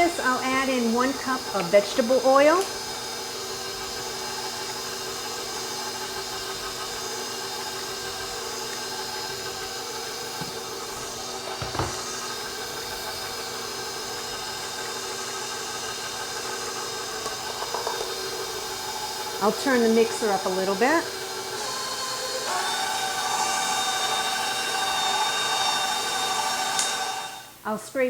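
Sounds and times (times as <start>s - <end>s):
electric mixer beating batter: 0.0s - 27.6s.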